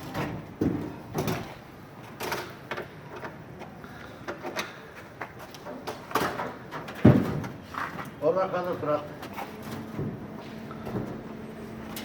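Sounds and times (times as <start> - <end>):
parts knocking and clattering: 0.0 - 10.2.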